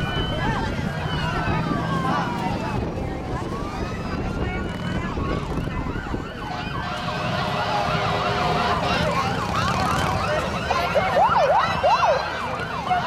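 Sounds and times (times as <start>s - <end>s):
motorcycle engines rumbling: 0.0s - 13.0s
sirens wailing and yelping: 0.0s - 13.0s.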